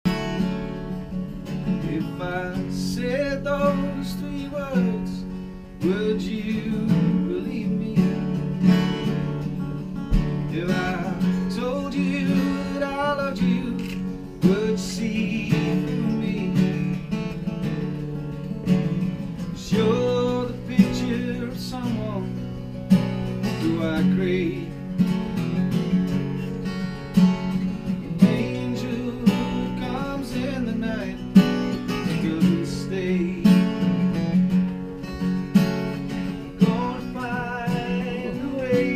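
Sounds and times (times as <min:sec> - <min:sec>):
strummed acoustic guitar: 0:00.0 - 0:38.9.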